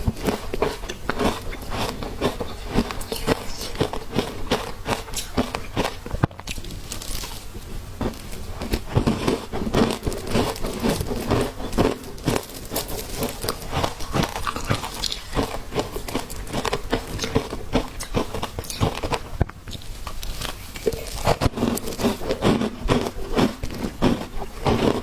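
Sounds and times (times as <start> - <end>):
chewing and crunching shaved ice: 0.0 - 25.0.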